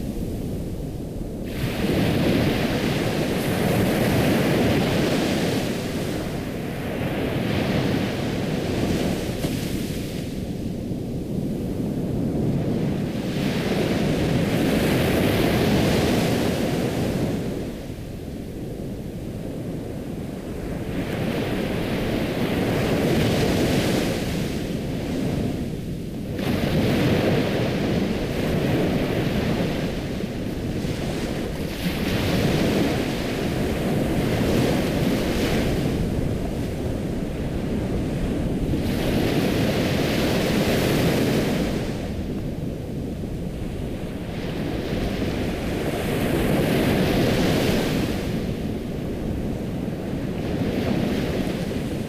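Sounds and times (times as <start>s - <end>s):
ocean waves breaking: 0.0s - 10.6s, 20.2s - 52.0s.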